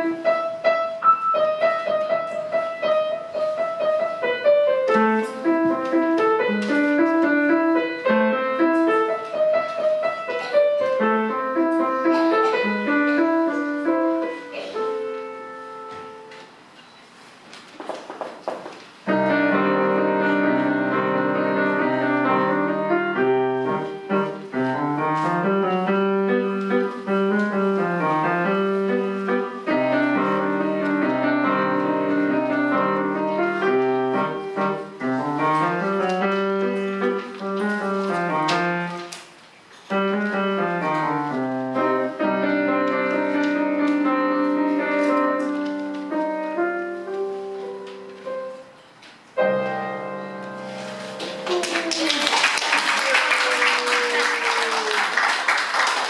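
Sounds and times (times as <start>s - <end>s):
solo piano playing: 0.0s - 16.7s, 19.0s - 51.9s.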